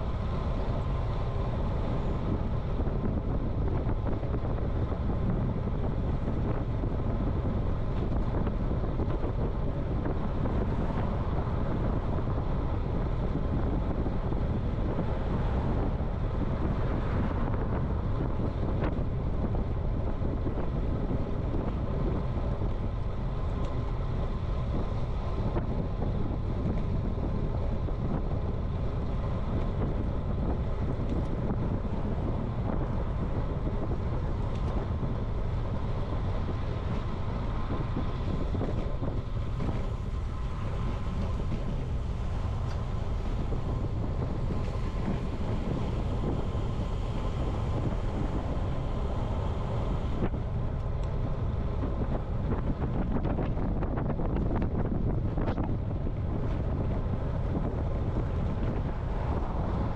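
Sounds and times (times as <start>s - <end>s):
bicycle tyre and road noise: 0.0s - 59.9s
wind rush on microphone: 0.0s - 59.9s.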